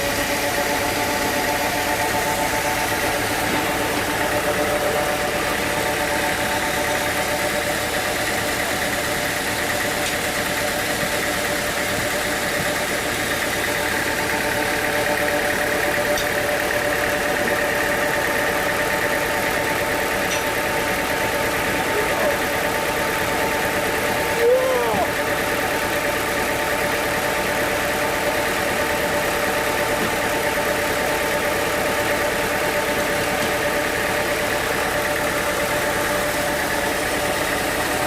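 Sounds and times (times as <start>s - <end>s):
sawmill machinery drone: 0.0s - 38.0s.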